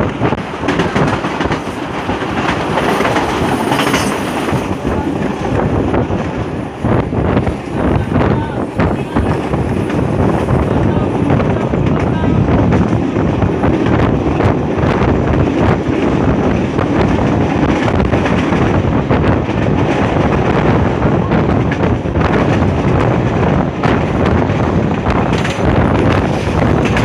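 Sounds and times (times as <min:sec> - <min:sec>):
train wheels rumbling on track: 0:00.0 - 0:27.0
wind buffeting microphone: 0:00.0 - 0:27.0.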